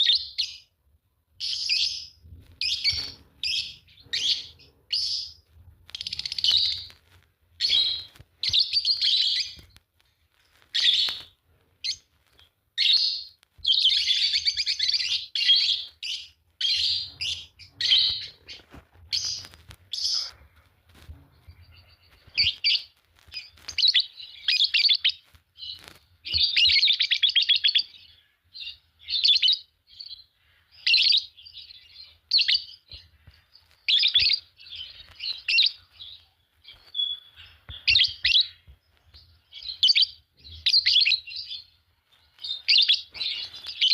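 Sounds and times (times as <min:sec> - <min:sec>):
lovebirds chirping and chattering: 0:00.0 - 0:43.9.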